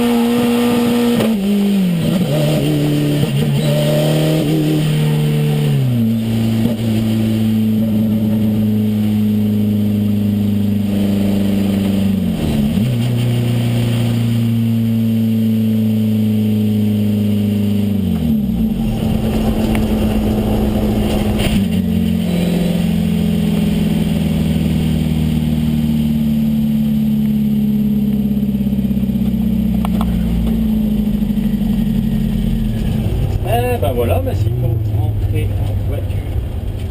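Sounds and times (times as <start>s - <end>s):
car engine from inside cabin: 0.0s - 36.9s.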